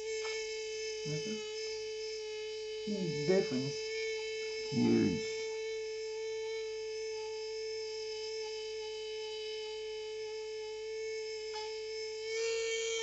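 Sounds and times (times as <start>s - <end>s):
small electric motor whining: 0.0s - 13.0s.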